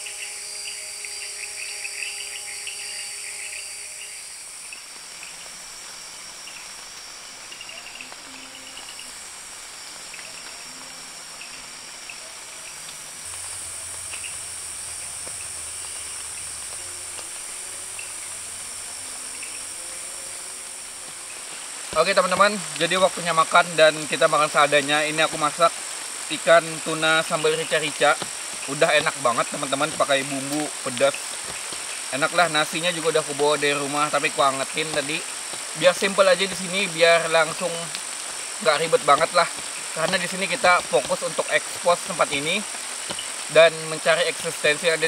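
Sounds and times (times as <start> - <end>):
high-pitched insect buzzing: 0.0 - 45.0.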